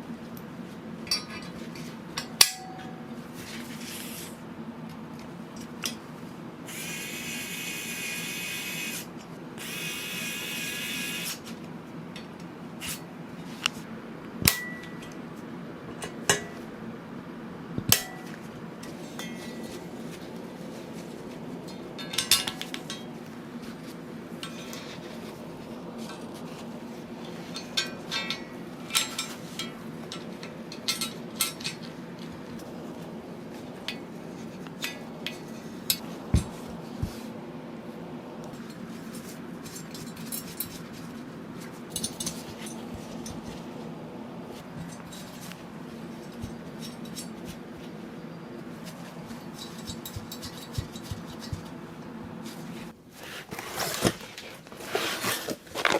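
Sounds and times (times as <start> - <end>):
steady low hum: 0.0 - 53.2.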